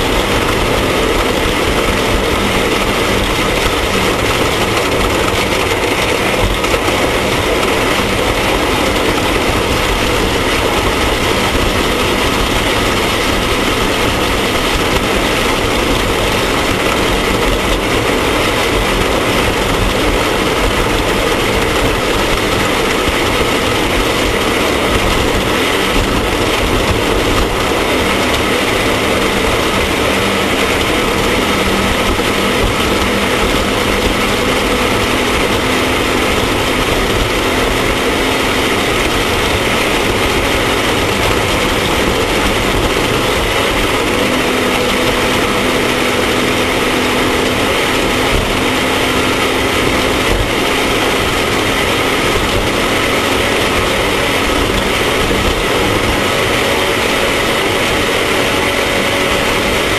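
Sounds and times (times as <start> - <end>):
rushing noise: 0.0 - 59.9
vehicle engine running at speed: 0.0 - 59.9.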